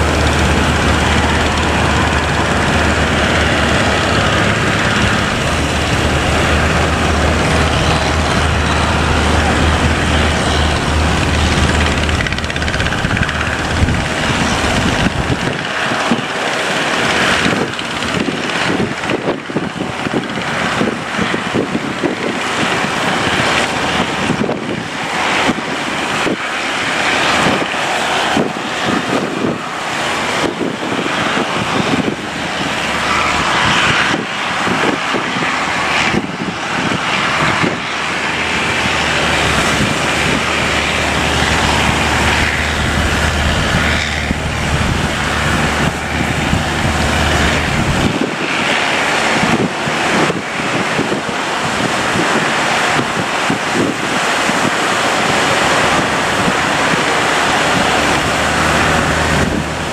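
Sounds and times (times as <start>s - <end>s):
boat engine drone: 0.0s - 59.9s
surf rushing: 0.0s - 59.9s
wind buffeting microphone: 0.0s - 59.9s.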